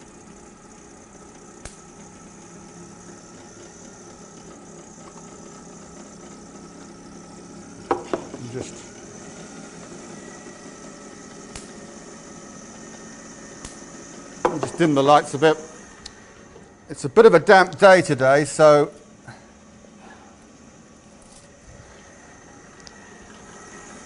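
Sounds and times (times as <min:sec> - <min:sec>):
electric motor humming: 0:00.0 - 0:24.0.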